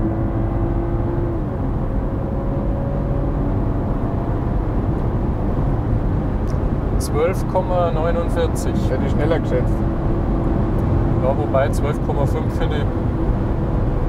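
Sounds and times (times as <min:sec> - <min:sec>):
car engine running: 0:00.0 - 0:14.0
road noise drone: 0:00.0 - 0:14.0.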